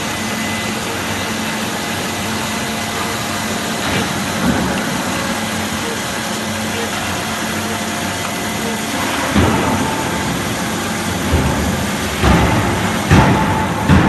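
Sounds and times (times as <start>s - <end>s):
band saw cutting steel: 0.0s - 14.0s.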